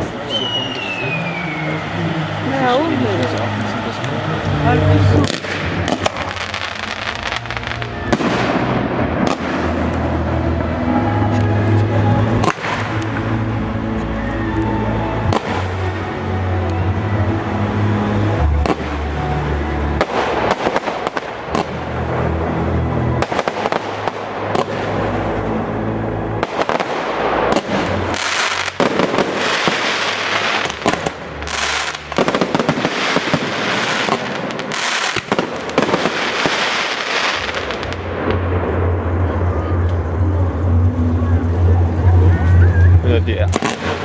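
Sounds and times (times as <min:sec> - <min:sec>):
fireworks bursting and crackling: 0:00.0 - 0:44.0
music with deep bass: 0:01.0 - 0:44.0.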